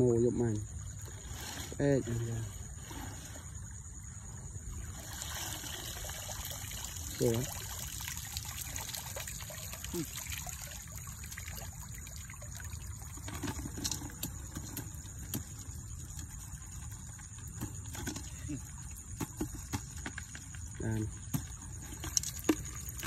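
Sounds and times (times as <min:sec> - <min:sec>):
water trickling: 0:00.4 - 0:23.0.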